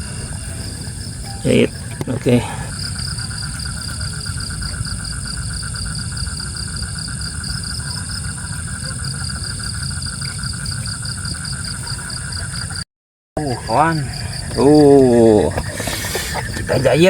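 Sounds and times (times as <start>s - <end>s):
insects chirping: 0.0s - 12.8s, 13.4s - 17.0s.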